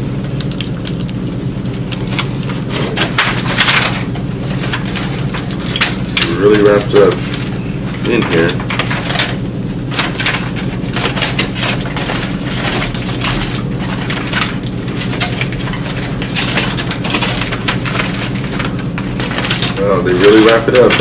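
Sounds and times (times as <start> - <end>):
aluminium foil crinkling: 0.3 - 21.0.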